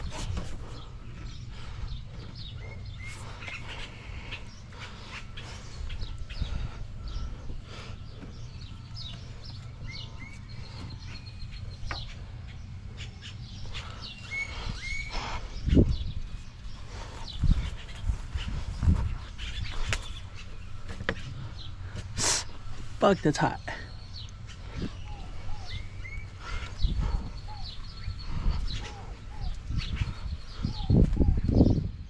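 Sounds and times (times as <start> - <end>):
bird chirps: 0.0 - 32.0
low steady rumble: 0.0 - 32.0.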